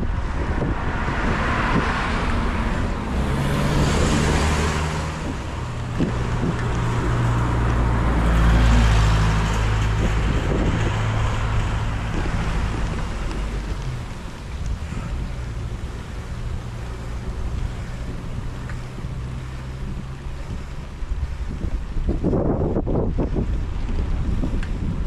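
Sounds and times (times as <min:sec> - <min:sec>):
passing car engine: 0:00.0 - 0:23.4
wind rushing over microphone: 0:00.0 - 0:25.0.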